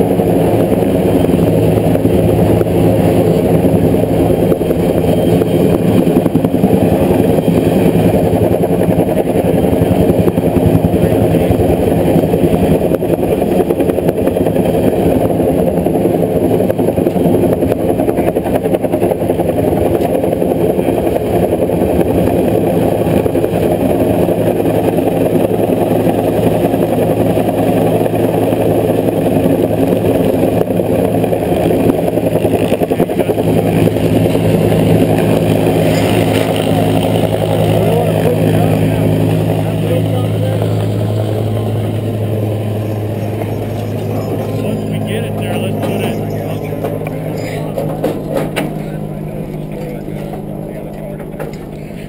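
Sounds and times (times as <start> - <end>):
helicopter engine and rotor drone: 0.0 - 52.0.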